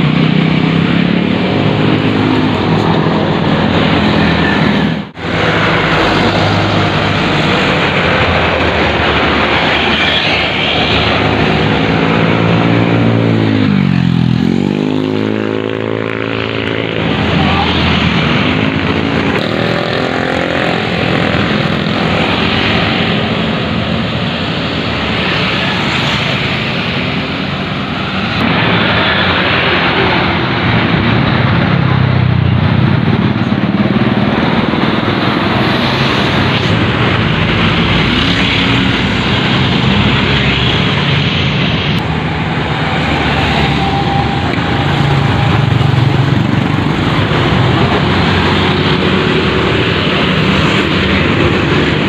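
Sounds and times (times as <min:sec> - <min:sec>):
buses passing: 0:00.0 - 0:52.0
motorbikes passing: 0:00.0 - 0:52.0.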